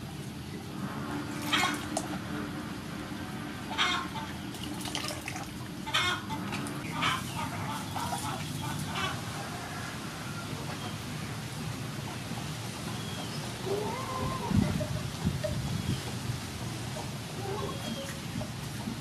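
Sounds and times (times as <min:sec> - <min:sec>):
chickens clucking: 0:00.4 - 0:19.0.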